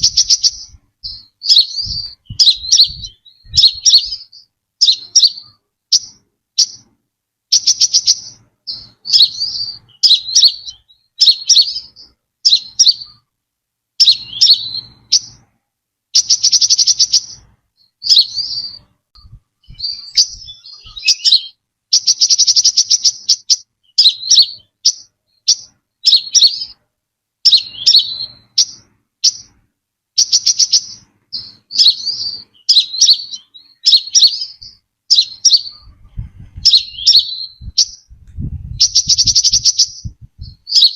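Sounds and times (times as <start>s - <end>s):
bird chirping phrases: 0.0s - 13.3s, 14.0s - 26.8s, 27.4s - 29.6s, 30.2s - 40.9s.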